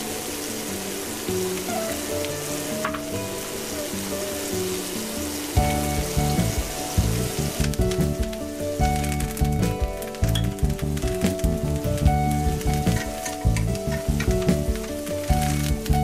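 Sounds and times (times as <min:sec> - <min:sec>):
background music: 0:00.0 - 0:16.0
steak sizzling in butter: 0:00.0 - 0:16.0.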